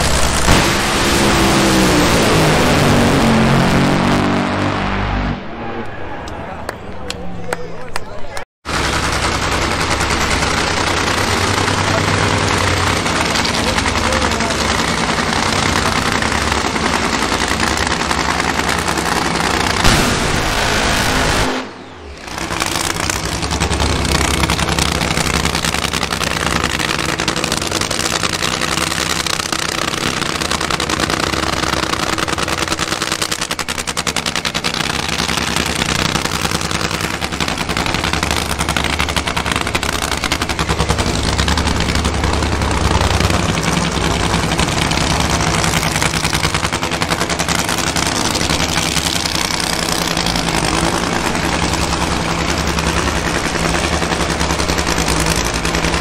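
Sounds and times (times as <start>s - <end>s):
drag-racing engine crackling: 0.0s - 7.2s, 7.8s - 56.0s.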